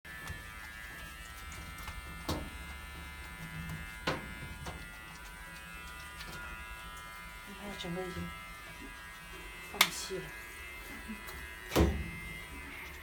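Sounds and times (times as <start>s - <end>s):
small motor buzzing hum: 0.1s - 13.0s.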